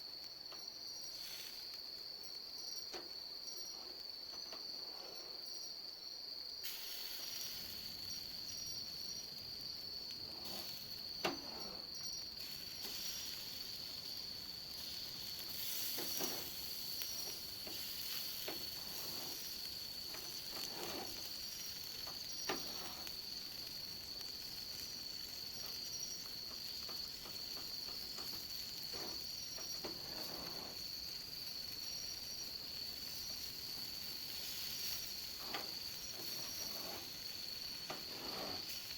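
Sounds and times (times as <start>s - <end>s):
crickets trilling: 0.0s - 38.9s
wood fire hissing and crackling: 0.0s - 38.9s.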